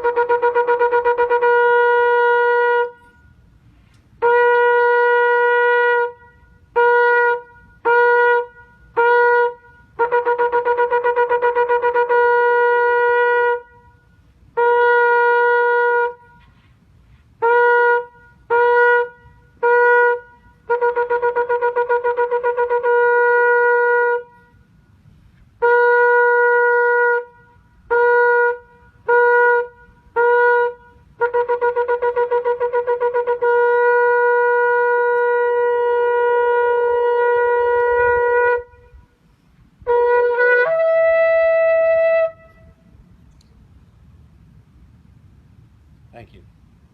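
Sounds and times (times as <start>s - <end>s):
shofar blasts: 0.0s - 3.5s, 4.2s - 16.6s, 17.4s - 25.0s, 25.6s - 42.9s.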